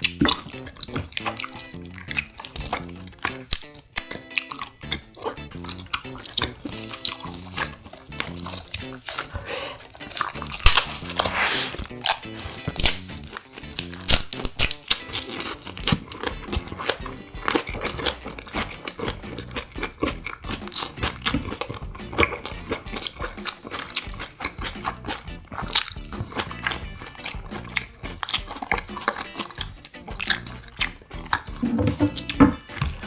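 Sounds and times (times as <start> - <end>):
background music: 0.0 - 33.0
crunchy chewing: 0.0 - 33.0
mouth clicks: 0.0 - 33.0.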